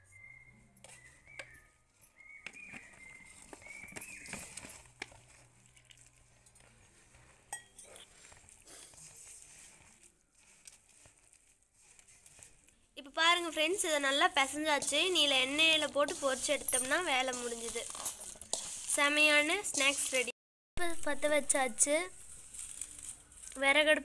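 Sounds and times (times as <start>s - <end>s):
hand mixing flour in steel bowl: 0.0s - 24.0s.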